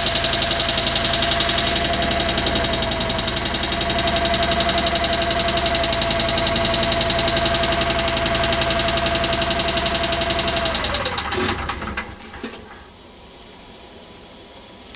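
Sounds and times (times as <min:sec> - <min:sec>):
engine running with fast knocking: 0:00.0 - 0:12.6.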